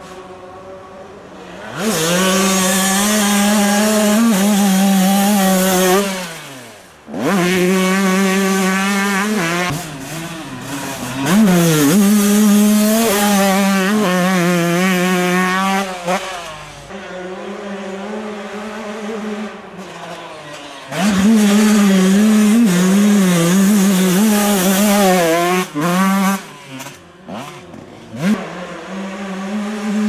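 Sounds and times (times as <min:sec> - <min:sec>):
motocross bike engines revving: 0:01.4 - 0:30.0.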